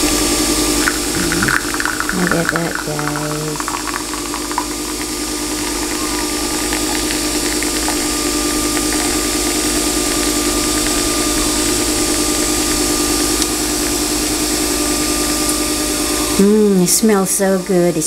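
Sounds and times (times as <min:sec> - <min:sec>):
coffee machine pump whirring: 0:00.0 - 0:16.0.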